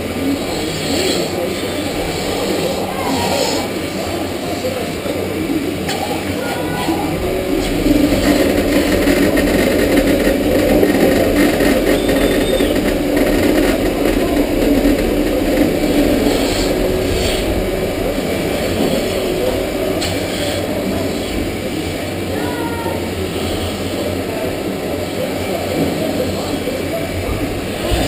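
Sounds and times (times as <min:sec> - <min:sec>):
milking machinery humming: 0:00.0 - 0:28.0.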